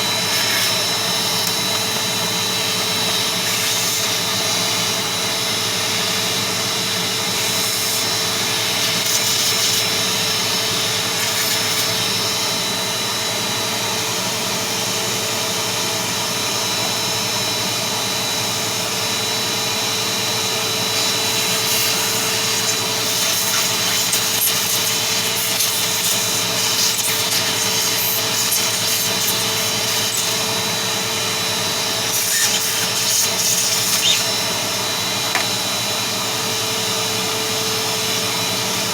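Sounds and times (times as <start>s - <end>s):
small machine humming and whining: 0.0s - 38.9s.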